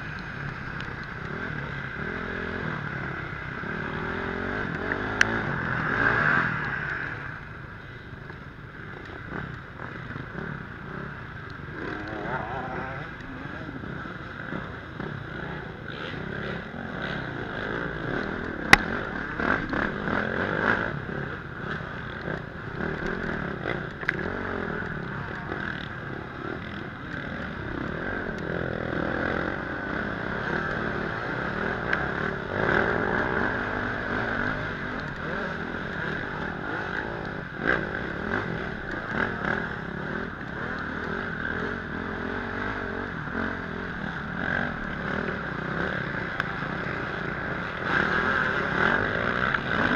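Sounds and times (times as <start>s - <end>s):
motorcycle engine revving: 0.0s - 49.9s
other dirt bikes: 0.0s - 49.9s.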